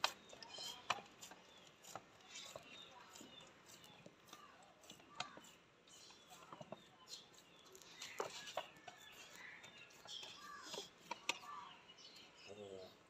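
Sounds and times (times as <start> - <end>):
hands working dough in steel bowl: 0.0 - 11.8.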